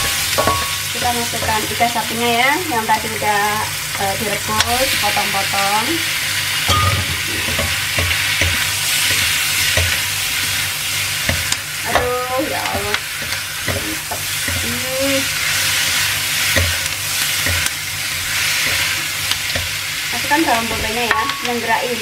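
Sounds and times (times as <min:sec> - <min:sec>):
spatula scraping and knocking wok: 0:00.0 - 0:21.7
food sizzling in hot oil: 0:00.0 - 0:22.0.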